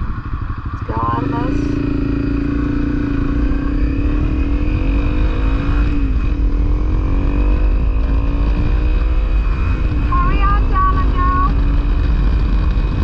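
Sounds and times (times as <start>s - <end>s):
motorcycle engine accelerating: 0.0s - 13.0s
wind rumble on microphone: 0.0s - 13.0s.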